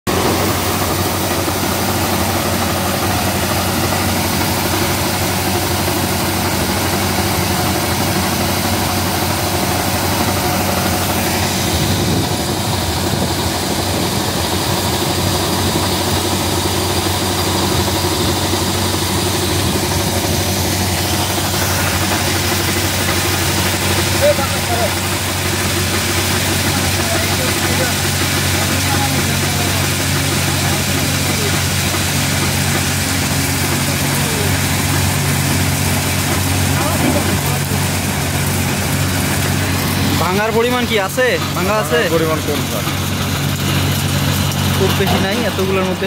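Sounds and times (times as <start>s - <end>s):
combine harvester running: 0.1s - 46.0s.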